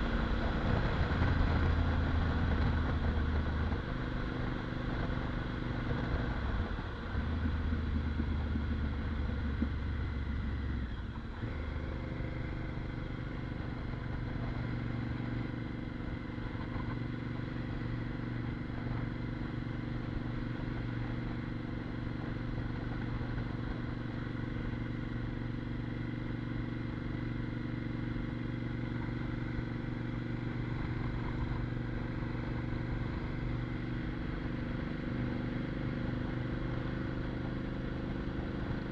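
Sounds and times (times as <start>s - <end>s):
deep engine rumble: 0.0s - 38.9s.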